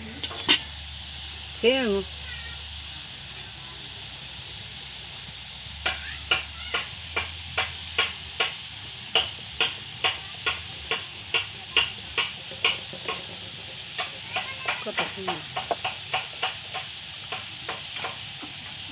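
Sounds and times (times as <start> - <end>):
oil sizzling in a wok: 0.0 - 18.9.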